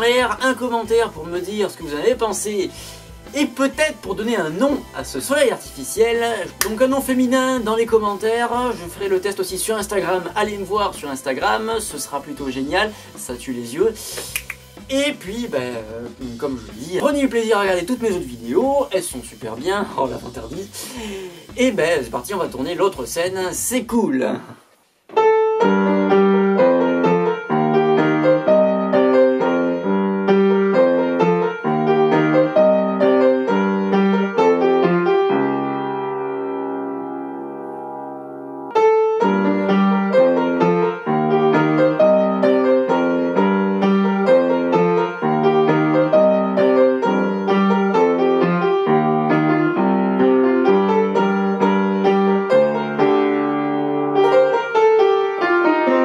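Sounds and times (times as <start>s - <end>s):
upright piano playing: 0.0s - 23.9s, 25.1s - 56.0s.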